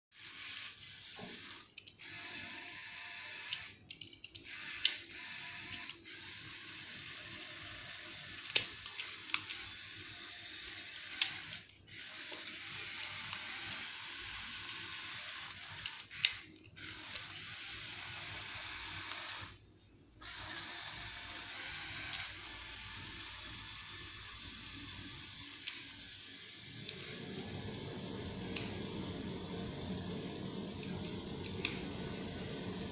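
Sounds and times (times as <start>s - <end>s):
toy car motor whirring: 0.1s - 19.6s, 20.2s - 32.9s.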